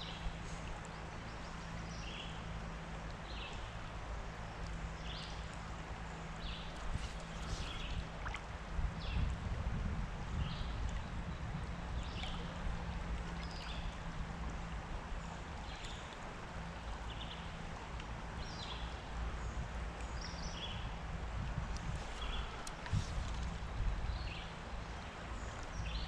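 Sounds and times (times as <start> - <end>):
creek water flowing: 0.0 - 26.0.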